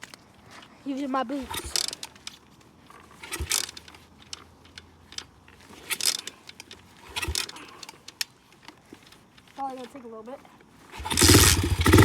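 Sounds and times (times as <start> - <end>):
motorcycle kick-starter clanking: 1.4 - 10.0, 10.9 - 12.0.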